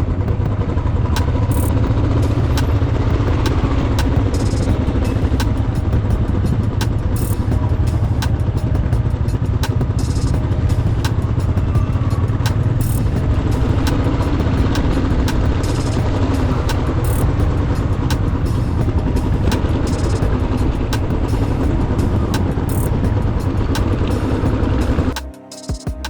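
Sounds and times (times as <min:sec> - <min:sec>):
motorcycle engine drone: 0:00.0 - 0:25.2
road and wind noise: 0:00.0 - 0:25.2.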